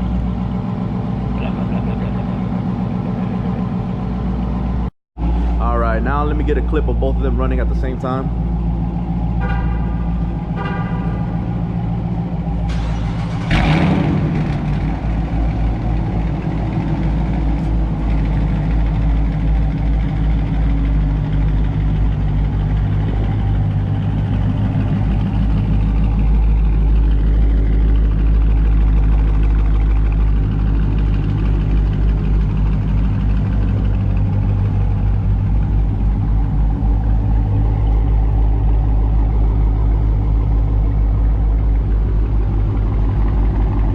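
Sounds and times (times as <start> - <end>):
car engines idling: 0.0 - 43.9.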